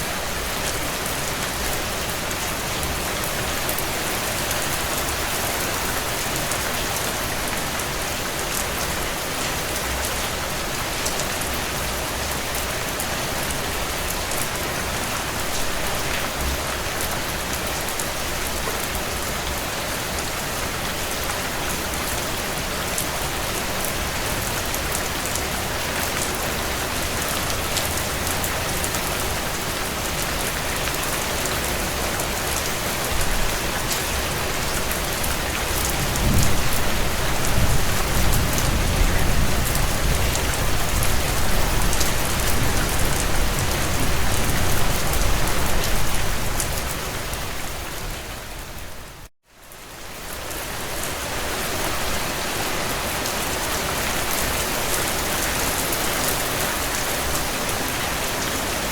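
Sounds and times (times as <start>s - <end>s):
heavy rain on windows: 0.1s - 47.3s.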